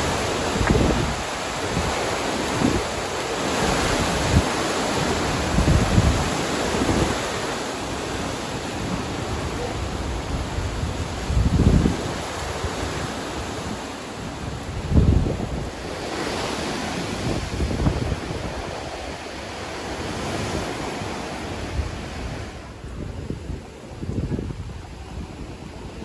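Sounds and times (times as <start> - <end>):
wind buffeting microphone: 0.0 - 26.0
wind gusting: 0.0 - 26.0.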